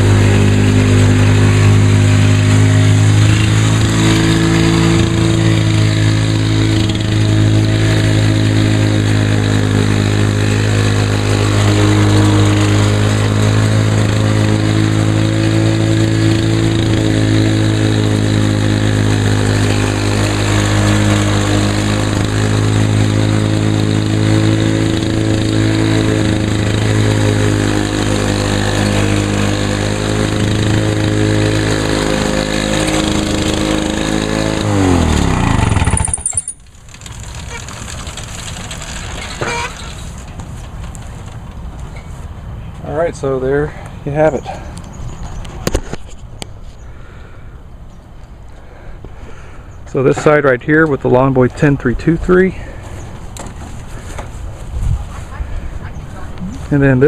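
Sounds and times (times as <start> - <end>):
lawn mower engine running: 0.0 - 46.0, 48.6 - 57.0.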